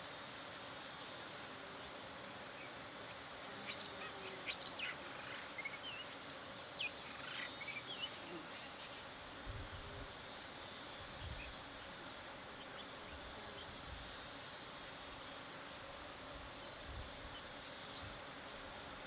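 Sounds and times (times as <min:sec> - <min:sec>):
outdoor hiss: 0:00.0 - 0:19.0.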